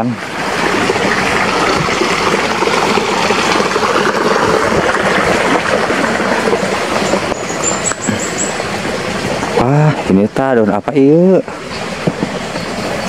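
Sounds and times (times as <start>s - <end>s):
water trickling in a ditch: 0.0s - 13.0s.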